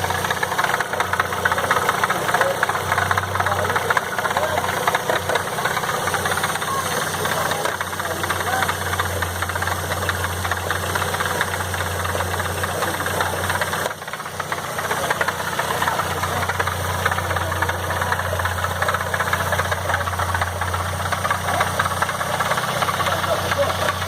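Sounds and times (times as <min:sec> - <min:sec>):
car engine running: 0:00.0 - 0:24.0
rapid engine ticking clatter: 0:00.0 - 0:24.0.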